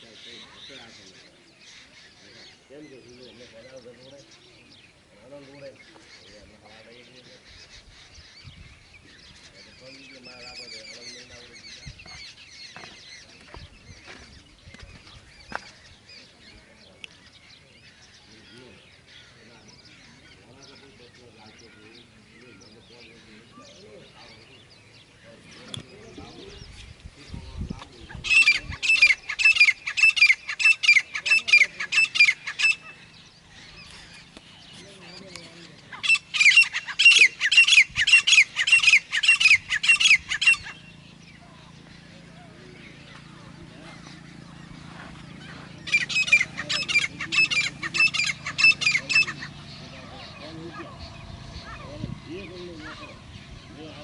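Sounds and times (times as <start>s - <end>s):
birds chirping and twittering: 0.0s - 54.0s.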